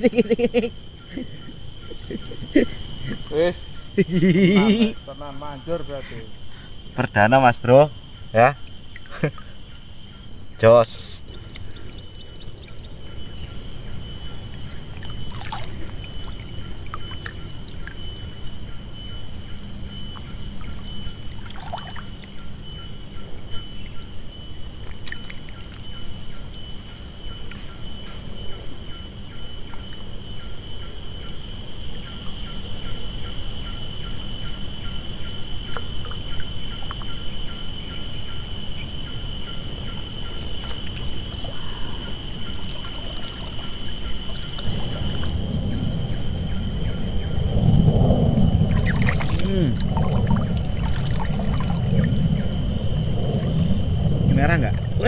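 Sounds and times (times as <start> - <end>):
high-pitched whine: 0.0 - 55.0.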